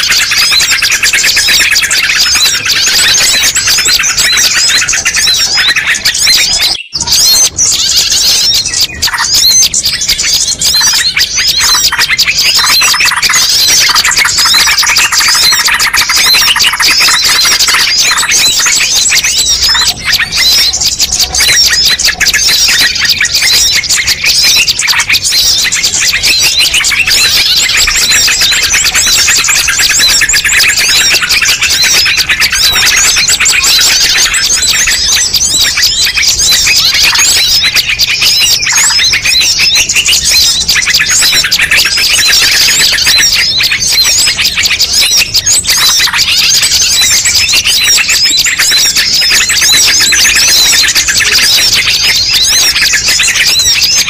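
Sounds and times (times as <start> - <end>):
chorus of small birds chirping: 0.0 - 54.0.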